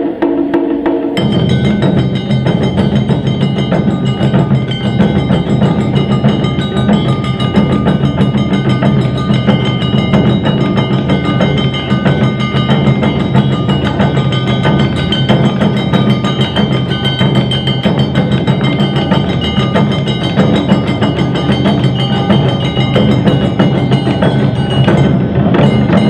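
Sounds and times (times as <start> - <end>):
hand gong struck rapidly: 0.0 - 26.0
taiko drums beating: 0.0 - 26.0
high ringing tones: 1.2 - 26.0.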